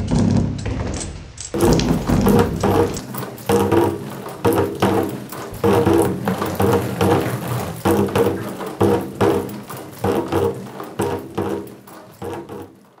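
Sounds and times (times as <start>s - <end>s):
water drops striking drum heads: 1.6s - 12.8s.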